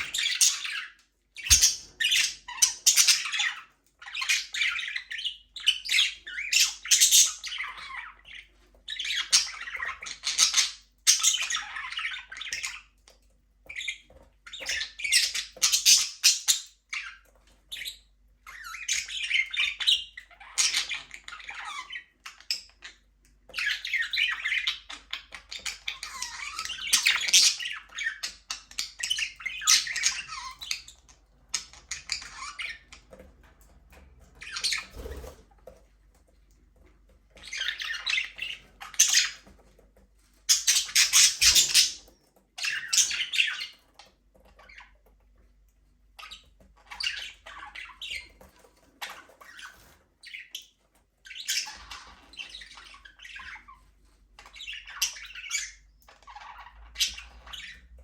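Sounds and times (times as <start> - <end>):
budgies chirping and chattering: 0.0 - 58.0.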